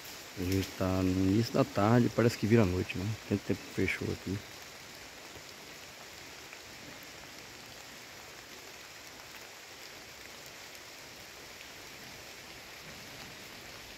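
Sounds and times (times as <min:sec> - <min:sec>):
rain on foliage: 0:00.0 - 0:13.9
raindrop ticks: 0:00.1 - 0:13.9.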